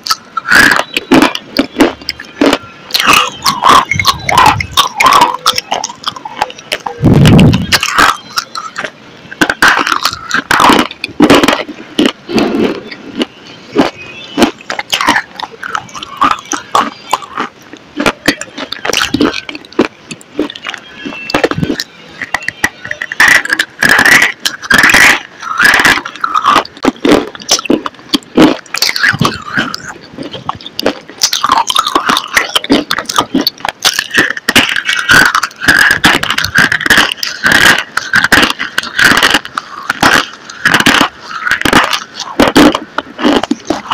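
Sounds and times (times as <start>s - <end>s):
crunchy biting and chewing: 0.0s - 43.9s.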